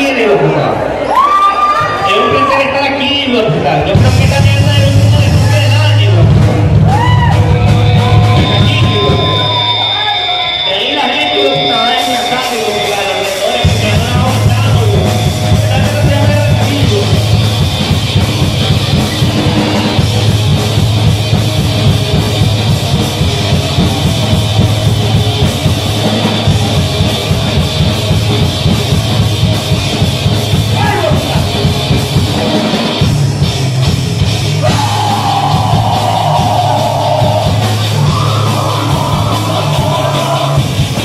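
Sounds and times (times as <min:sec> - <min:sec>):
live metal band playing: 0:03.5 - 0:41.0.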